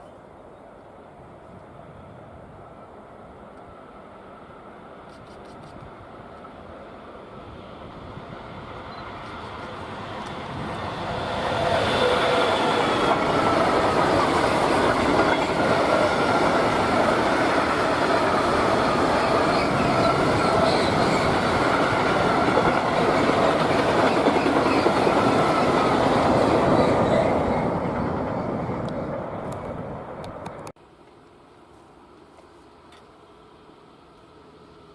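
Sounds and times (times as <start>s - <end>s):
freight train passing: 0.1s - 30.7s, 33.1s - 34.9s.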